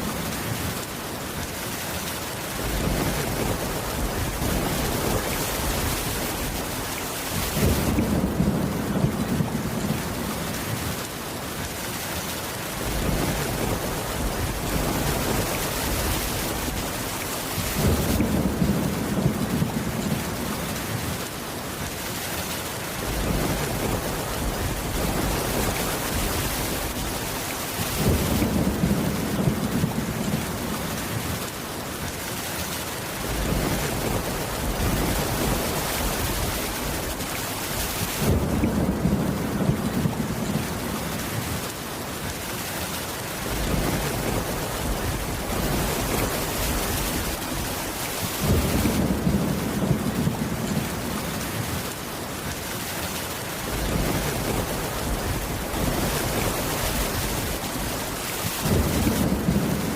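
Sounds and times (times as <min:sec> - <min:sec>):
heavy rain: 0:00.0 - 0:59.9
low rolling thunder: 0:02.6 - 0:11.0, 0:12.8 - 0:21.2, 0:23.0 - 0:31.4, 0:33.2 - 0:41.7, 0:43.4 - 0:51.9, 0:53.6 - 0:59.9.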